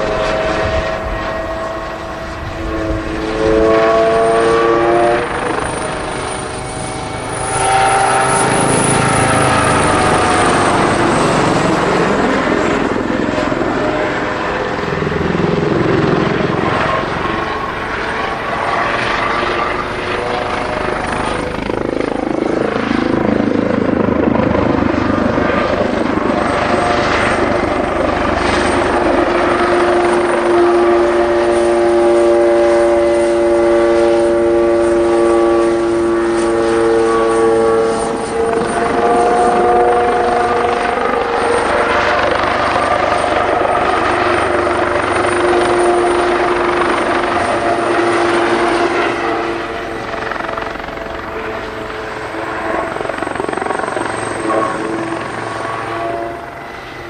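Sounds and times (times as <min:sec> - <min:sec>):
helicopter engine whine: 0:00.0 - 0:57.0
helicopter rotor thrum: 0:05.2 - 0:57.0.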